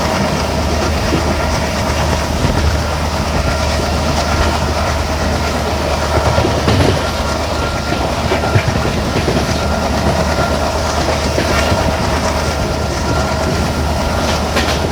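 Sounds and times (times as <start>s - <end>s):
diesel locomotive drone: 0.0s - 14.9s
train wheels clattering on rails: 0.0s - 14.9s.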